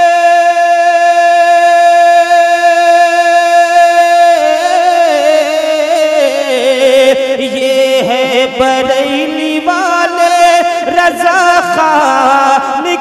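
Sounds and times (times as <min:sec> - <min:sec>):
man singing: 0:00.0 - 0:13.0.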